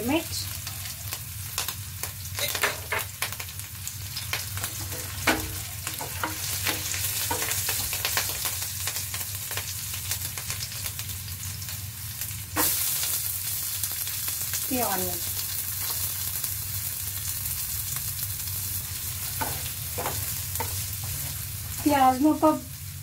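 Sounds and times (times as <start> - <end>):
garlic sizzling in oil: 0.0 - 23.0.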